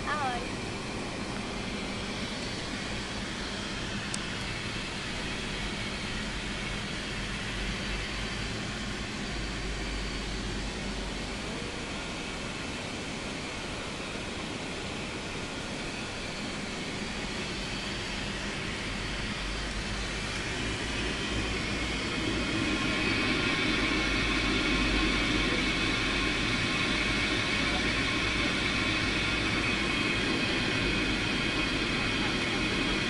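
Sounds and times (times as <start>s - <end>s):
airliner cabin jet engine rumble: 0.0s - 33.0s.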